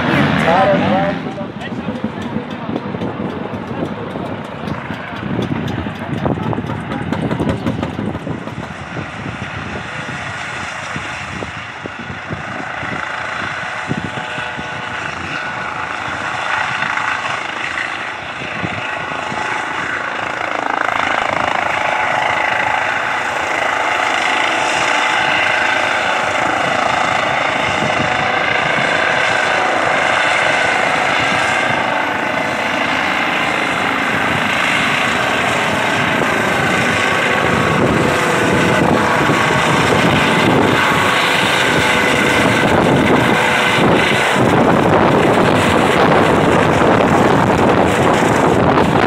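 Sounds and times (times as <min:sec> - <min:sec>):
helicopter rotors and turbines: 0:00.0 - 0:49.0
high turbine whine: 0:00.0 - 0:49.0
rotor downwash buffeting microphone: 0:00.0 - 0:49.0.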